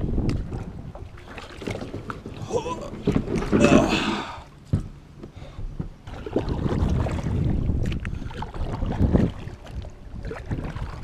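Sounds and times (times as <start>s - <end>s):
wind buffeting microphone: 0.0s - 4.8s, 5.6s - 11.0s
water splashing around kayak: 0.0s - 11.0s.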